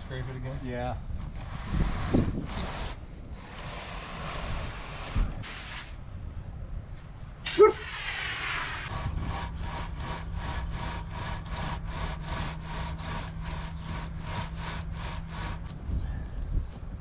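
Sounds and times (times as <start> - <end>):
screed board scraping wet concrete: 0.0 - 6.0, 7.8 - 15.8.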